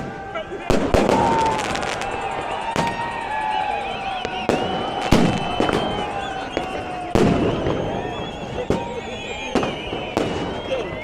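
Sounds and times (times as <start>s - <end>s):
fireworks bangs: 0.0s - 11.0s
rockets whistling: 0.0s - 11.0s.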